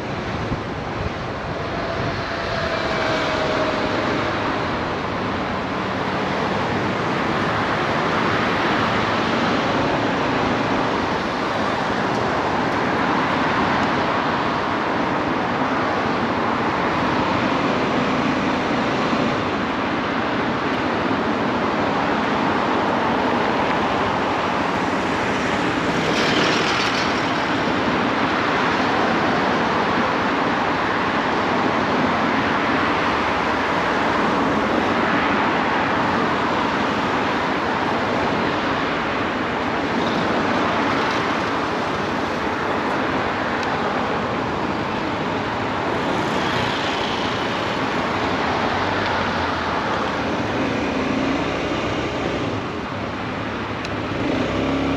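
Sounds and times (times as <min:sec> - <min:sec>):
road and traffic noise: 0:00.0 - 0:54.9.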